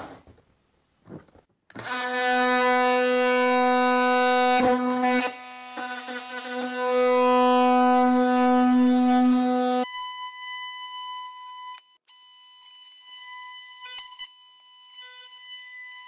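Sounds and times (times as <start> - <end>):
oscillating multi-tool cutting plastic: 1.7 - 16.0.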